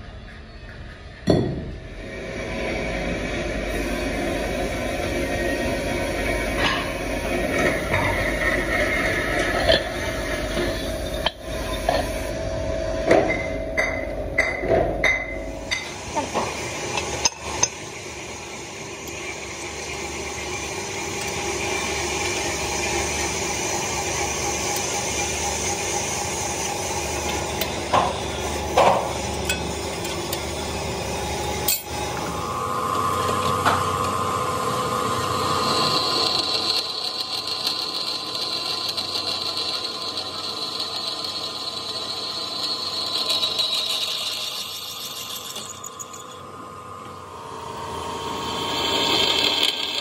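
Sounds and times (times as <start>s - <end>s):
workshop machine noise: 0.0s - 50.0s
steady whine: 1.1s - 39.0s, 39.8s - 50.0s.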